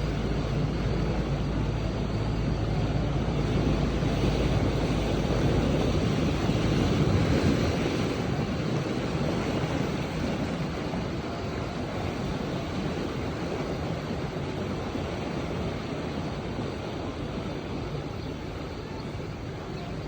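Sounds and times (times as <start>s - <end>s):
boat motor humming: 0.0s - 20.0s
water rushing past boat: 0.0s - 20.0s
wind on microphone: 0.0s - 20.0s.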